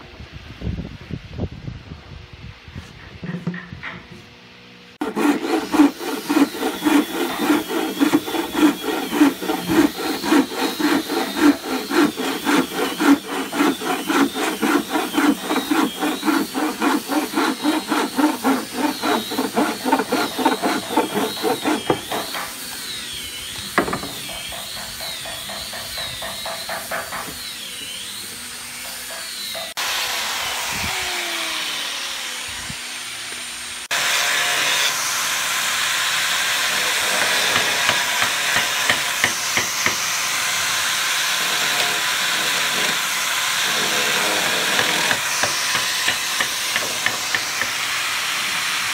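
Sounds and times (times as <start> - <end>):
bow saw cutting wood: 5.0 - 48.9.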